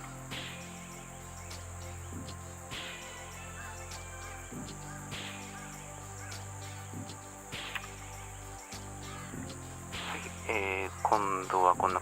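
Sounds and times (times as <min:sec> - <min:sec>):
high insect buzz: 0:00.0 - 0:12.0
music with bass and beat: 0:00.0 - 0:12.0.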